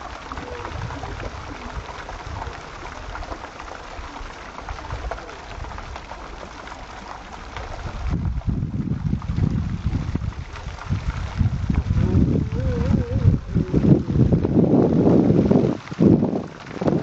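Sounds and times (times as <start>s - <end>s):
fountain water splashing into basin: 0.0s - 17.0s.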